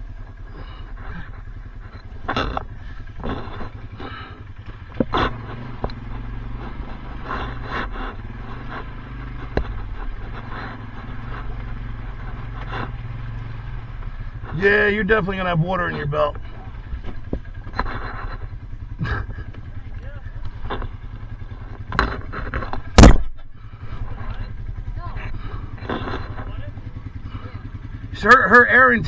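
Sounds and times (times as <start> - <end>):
quad engine idling: 0.0 - 29.0.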